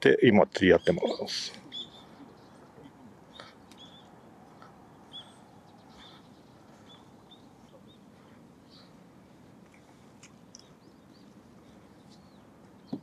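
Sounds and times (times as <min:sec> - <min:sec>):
small bird chirping: 0:00.8 - 0:09.0, 0:09.7 - 0:13.0.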